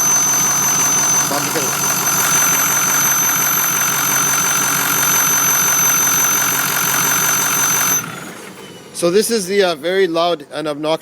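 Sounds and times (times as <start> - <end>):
high-pitched engine whistle: 0.0 - 9.0
diesel engine running: 0.0 - 9.8.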